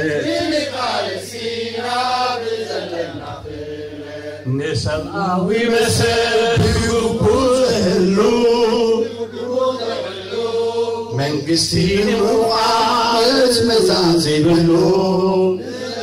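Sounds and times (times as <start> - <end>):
men singing a chant: 0.0 - 16.0.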